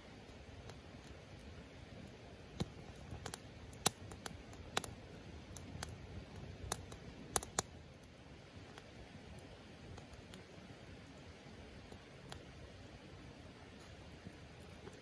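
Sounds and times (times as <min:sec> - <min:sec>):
faint steady hiss: 0:00.0 - 0:15.0
wood fire crackling and popping: 0:00.0 - 0:15.0.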